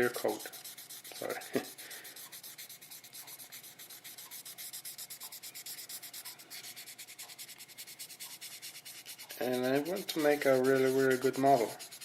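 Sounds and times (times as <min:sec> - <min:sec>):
sandpaper rubbing on paint: 0:00.0 - 0:12.0.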